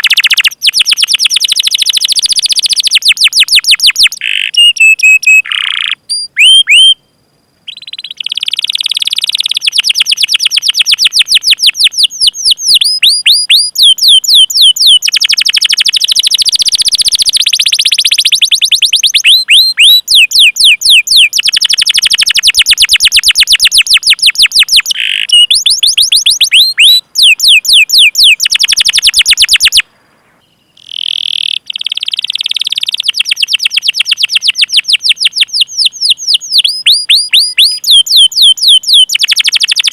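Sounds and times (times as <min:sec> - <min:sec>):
canary singing trills: 0:00.0 - 0:29.8, 0:30.4 - 0:39.9.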